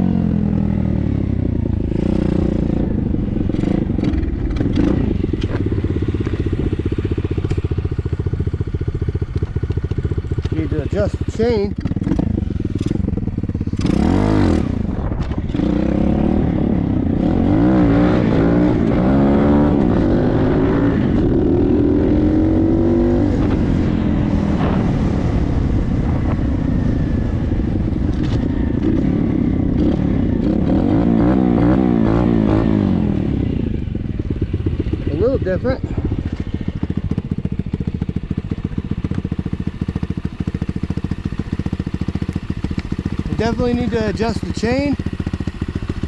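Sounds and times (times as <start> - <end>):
dirt bike engine revving: 0.0 - 26.4, 27.2 - 46.0.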